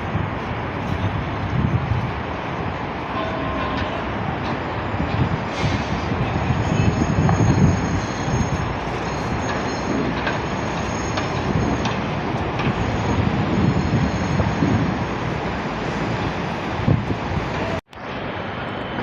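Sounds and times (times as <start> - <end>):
machinery rumble: 0.0 - 19.0.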